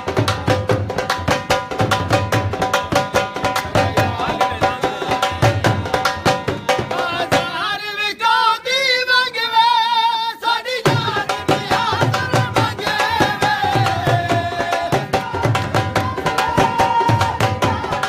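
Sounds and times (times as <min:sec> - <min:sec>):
barrel drum beaten fast: 0:00.0 - 0:07.6, 0:10.8 - 0:18.0.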